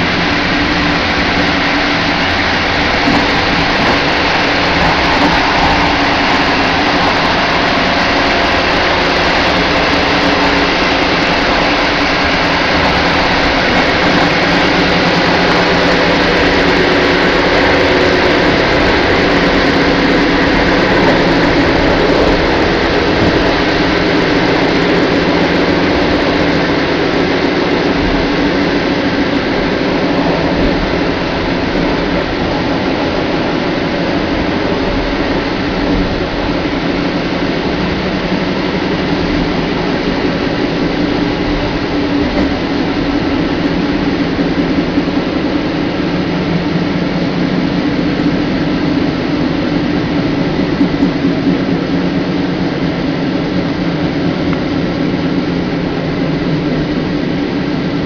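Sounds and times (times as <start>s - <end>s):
train rolling rumble and hiss: 0.0s - 58.0s.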